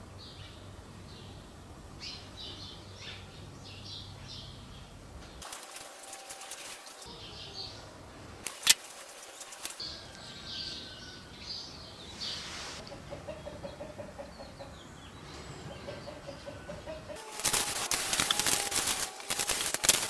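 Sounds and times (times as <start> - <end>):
birds chirping: 0.0 - 18.5.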